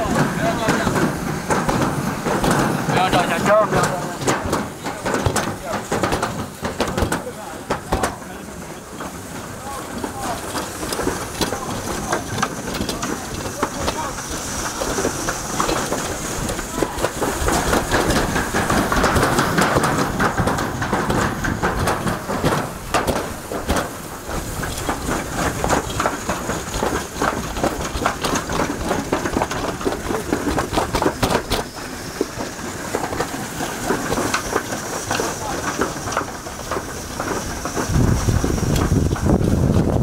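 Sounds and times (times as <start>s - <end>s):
sled rattling down metal chute: 0.0s - 40.0s.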